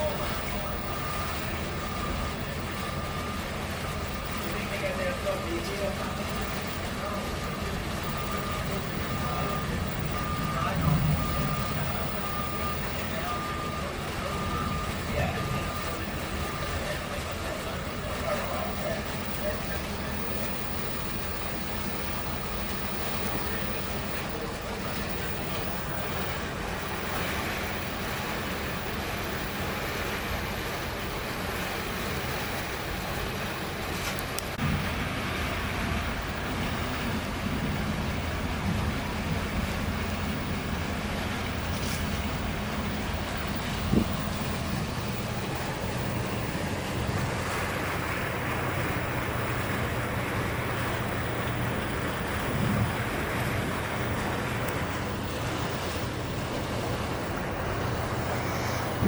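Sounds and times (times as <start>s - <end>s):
sea: 0.0s - 59.0s
wind buffeting microphone: 0.0s - 59.0s.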